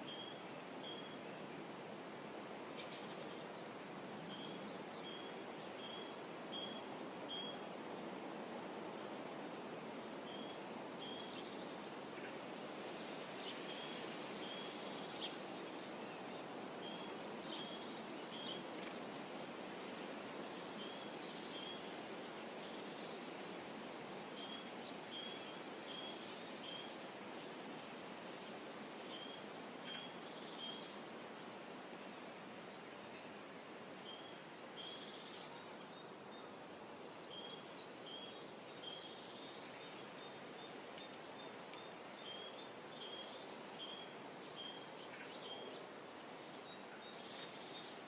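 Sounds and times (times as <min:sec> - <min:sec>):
water rippling along shore: 0:00.0 - 0:48.0.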